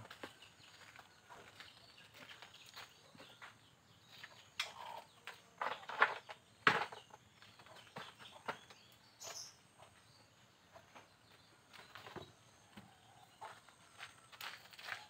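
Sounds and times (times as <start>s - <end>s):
rustles and knocks of footsteps: 0.0s - 15.0s.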